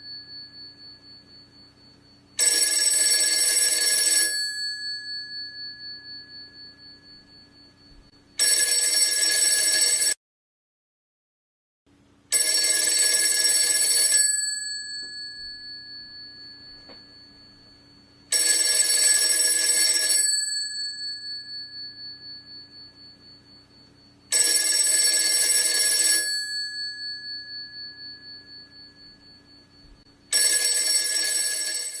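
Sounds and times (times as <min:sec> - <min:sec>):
telephone bell ringing: 0:00.0 - 0:10.2, 0:12.3 - 0:32.0.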